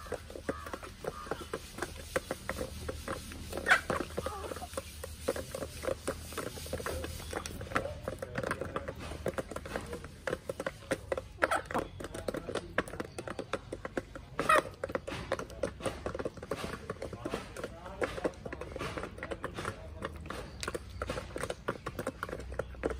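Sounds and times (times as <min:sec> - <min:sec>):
chickens pecking at feed: 0:00.0 - 0:22.9
soft chicken clucks: 0:00.0 - 0:22.9.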